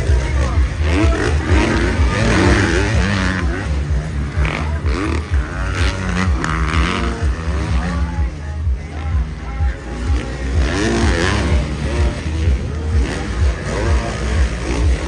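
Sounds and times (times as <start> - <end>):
dirt bikes racing past: 0.0 - 15.0.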